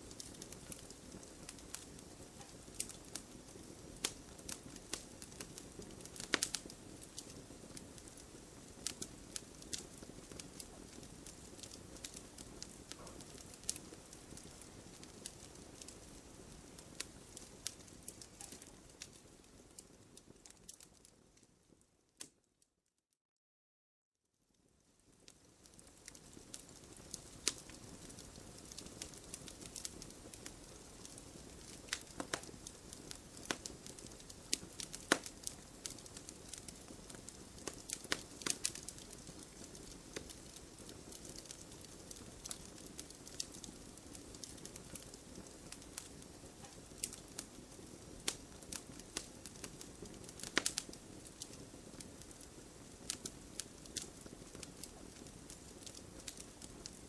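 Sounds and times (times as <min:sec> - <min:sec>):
campfire crackling and popping: 0:00.0 - 0:22.4, 0:24.6 - 0:57.0.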